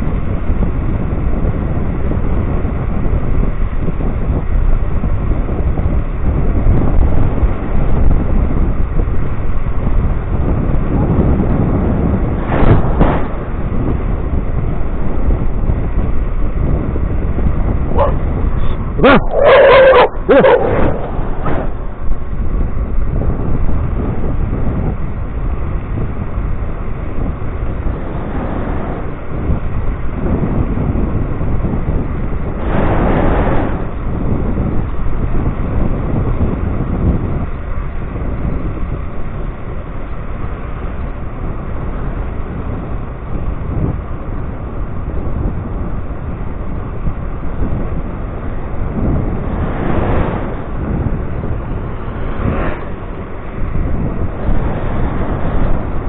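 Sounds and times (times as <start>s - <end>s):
road noise: 0.0s - 56.0s
wind rushing over microphone: 0.0s - 56.0s.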